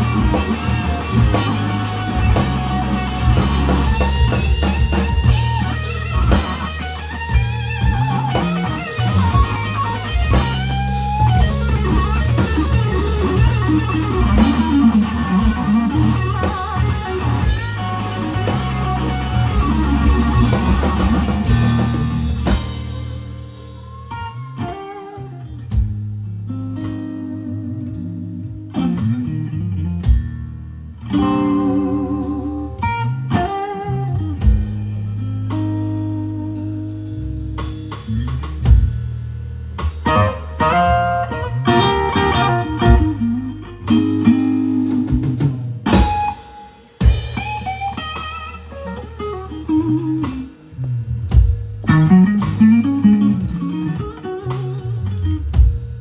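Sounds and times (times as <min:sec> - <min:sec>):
electric guitar lead: 0:00.0 - 0:39.0, 0:39.6 - 0:56.0
blues band playing: 0:00.0 - 0:56.0.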